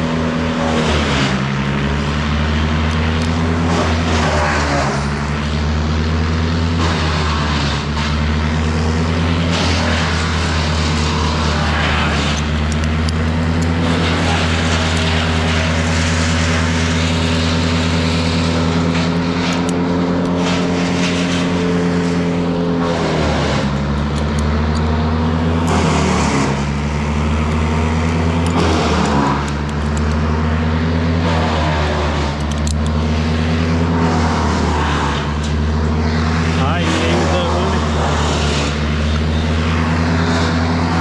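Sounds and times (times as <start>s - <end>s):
large engine running: 0.0s - 41.0s.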